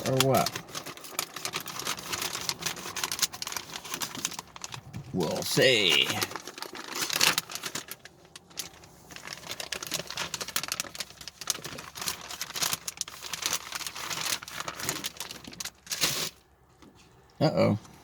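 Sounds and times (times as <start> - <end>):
plastic packaging crinkling: 0.0 - 16.4.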